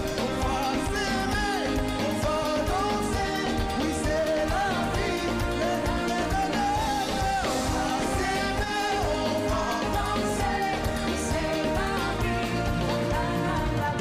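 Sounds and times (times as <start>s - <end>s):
person singing with live band: 0.0s - 14.0s.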